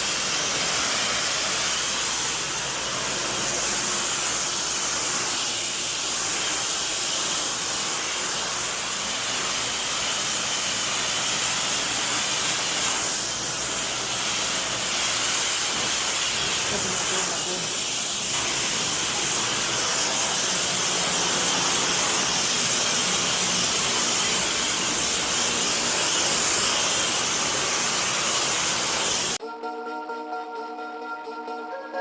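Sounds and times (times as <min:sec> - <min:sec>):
pressure washer spray hissing: 0:00.0 - 0:29.4.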